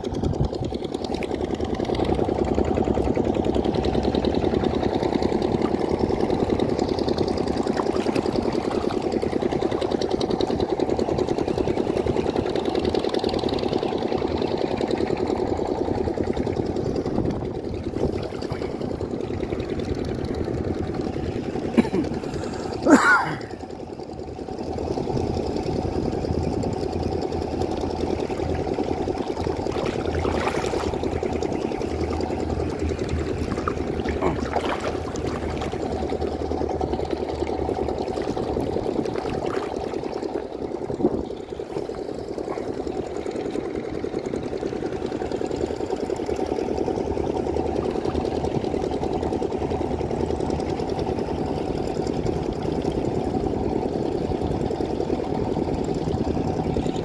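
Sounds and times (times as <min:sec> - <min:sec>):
mechanical drone with low hum: 0:00.0 - 0:57.0.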